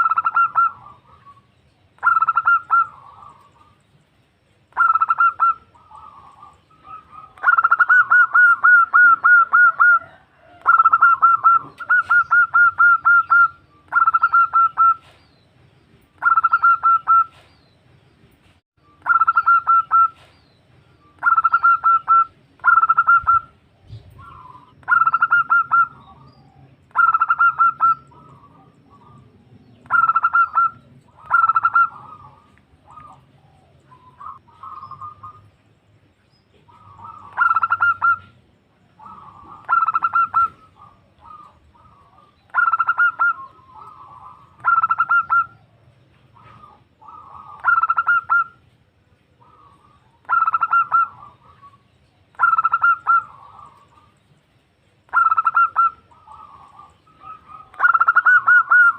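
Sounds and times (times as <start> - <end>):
dove stuttering coos: 0.0 - 3.8, 4.7 - 15.2, 21.2 - 35.4, 36.6 - 48.7, 49.4 - 54.2, 55.1 - 58.9.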